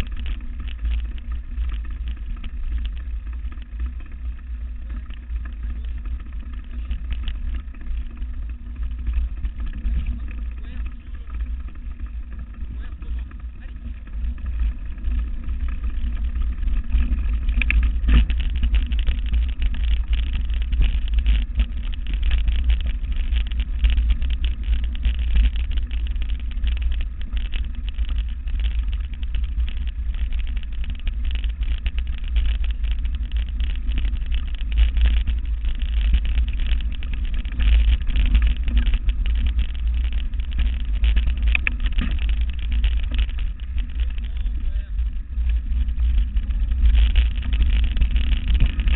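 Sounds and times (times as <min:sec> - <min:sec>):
gravel clicks and knocks: 0:00.0 - 0:48.9
mountain bike rattling over stones: 0:00.0 - 0:48.9
wind rumble on microphone: 0:00.0 - 0:48.9.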